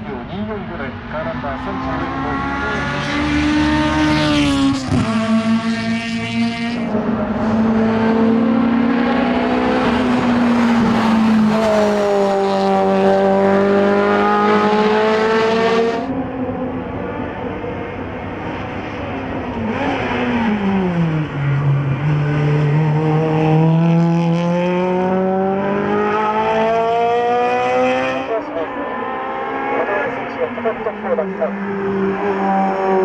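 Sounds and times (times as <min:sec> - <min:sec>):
car engine revving hard: 0:01.4 - 0:16.1, 0:17.2 - 0:33.0.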